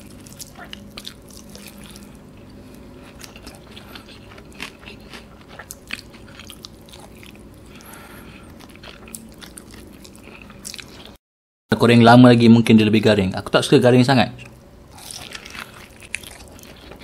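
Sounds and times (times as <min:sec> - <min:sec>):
fried chicken being chewed: 0:00.0 - 0:11.2, 0:14.4 - 0:17.0.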